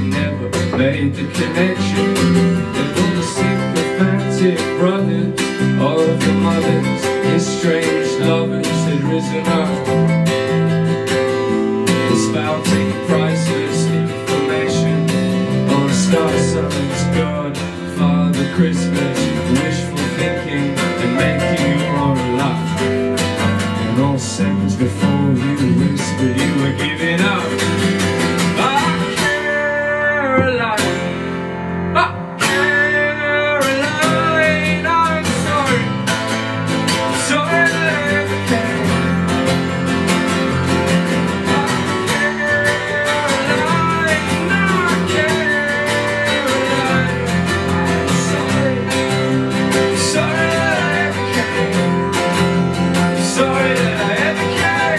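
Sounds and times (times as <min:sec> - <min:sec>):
acoustic guitars strumming: 0:00.0 - 0:54.9
bass guitar: 0:00.0 - 0:54.9.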